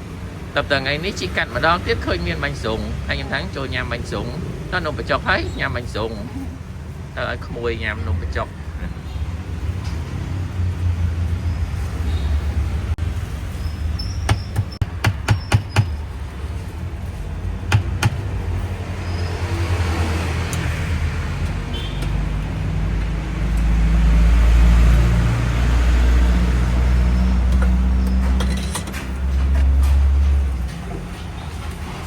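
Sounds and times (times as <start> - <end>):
street traffic: 0.0 - 32.0.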